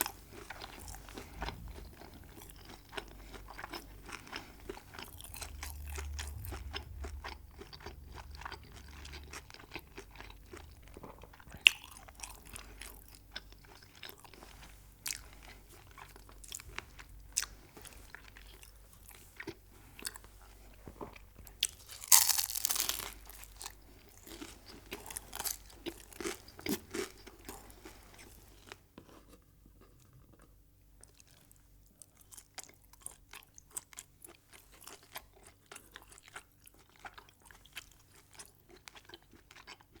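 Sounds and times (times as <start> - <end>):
crunchy food being chewed: 0.0 - 40.0.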